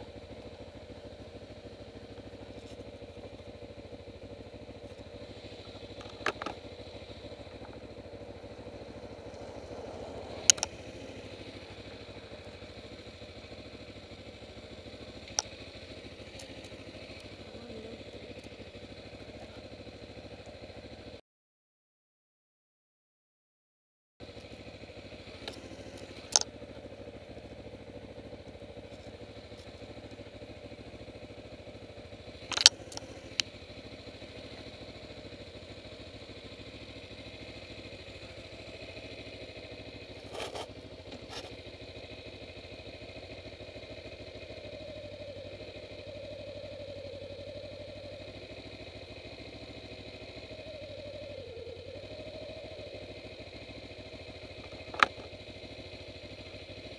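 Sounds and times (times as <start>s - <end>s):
motorcycle engine running: 0.0s - 21.2s, 24.2s - 56.9s.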